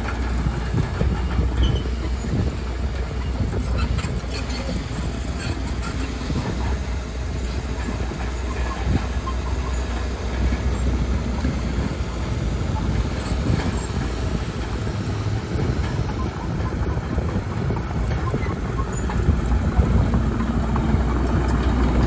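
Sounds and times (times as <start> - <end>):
heavy diesel engine rumble: 0.0 - 22.0.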